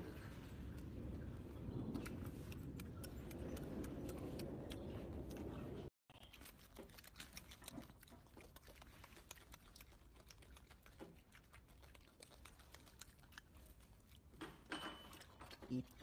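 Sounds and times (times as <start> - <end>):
monkey eating small clicks: 0.7 - 16.0.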